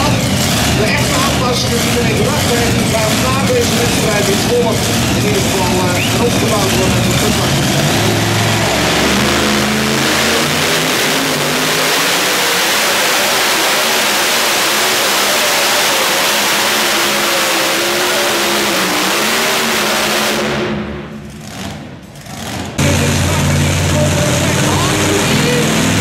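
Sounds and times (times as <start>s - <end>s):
tractor engine revving: 0.0s - 26.0s.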